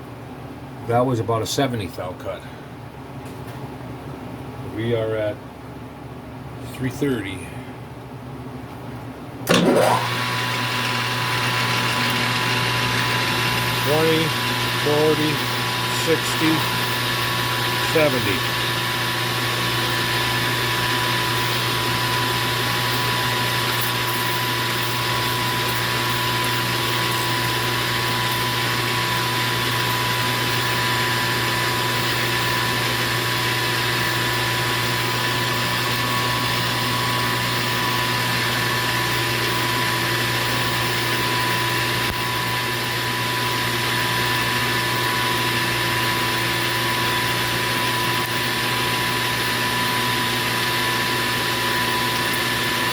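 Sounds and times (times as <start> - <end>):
metal lathe running: 9.5 - 52.9.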